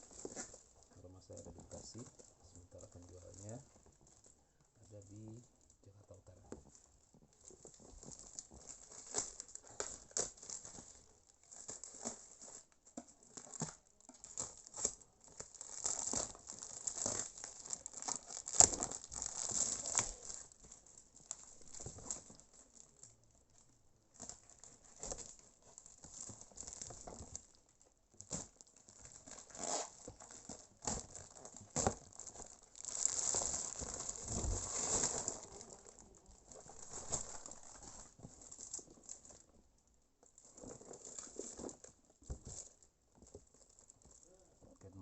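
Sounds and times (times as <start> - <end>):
packaging crinkling and rustling: 0.0 - 44.7.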